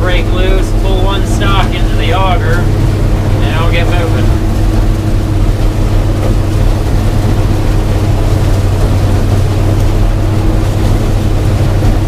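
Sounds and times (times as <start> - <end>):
combine harvester engine drone: 0.0 - 12.0
corn head and feeder rumbling: 0.0 - 12.0.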